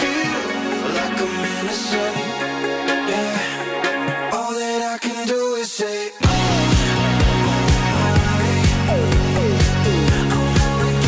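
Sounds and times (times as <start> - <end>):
background song: 0.0 - 11.0.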